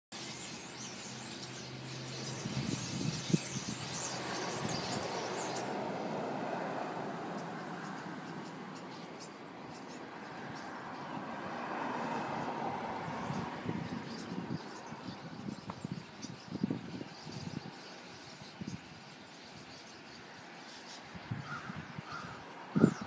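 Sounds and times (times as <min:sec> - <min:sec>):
birds chirping: 0:00.1 - 0:23.0.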